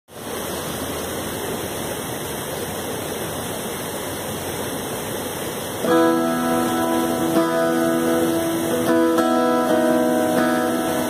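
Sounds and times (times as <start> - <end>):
steady rushing noise: 0.1 - 11.0.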